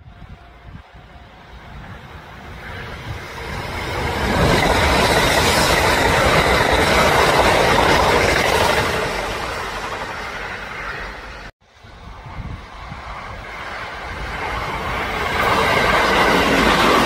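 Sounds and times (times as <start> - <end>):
train wheels rushing on track: 0.0 - 17.0.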